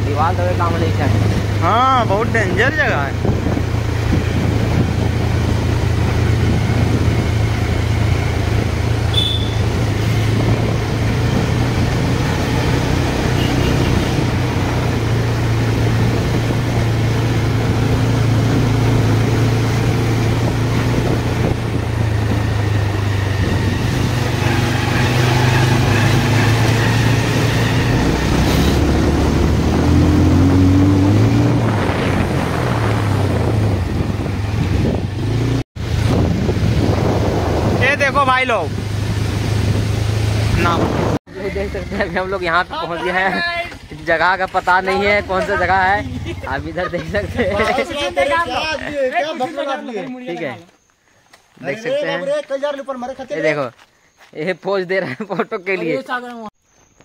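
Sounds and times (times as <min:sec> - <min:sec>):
motorcycle engine running: 0:00.0 - 0:48.4.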